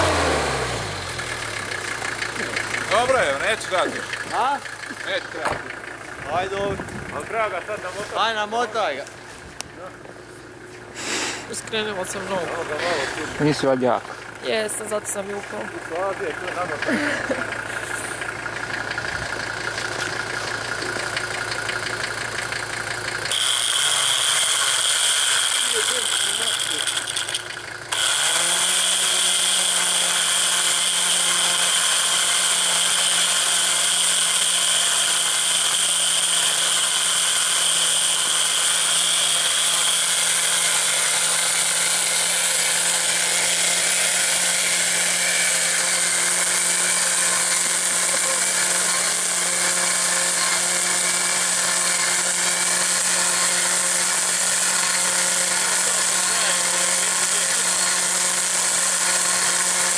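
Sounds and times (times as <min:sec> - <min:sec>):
electric winch motor whine: 0:00.0 - 0:07.3, 0:14.7 - 0:59.9.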